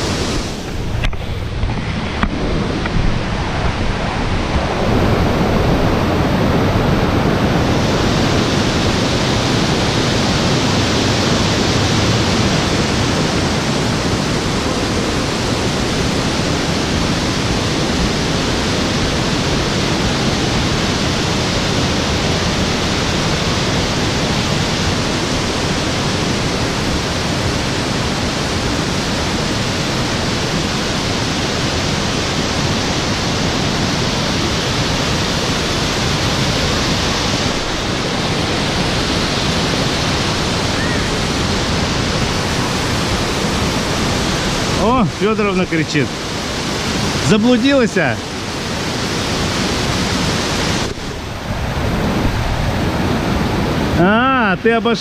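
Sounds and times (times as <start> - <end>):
water rushing over boulders: 0.0 - 55.0.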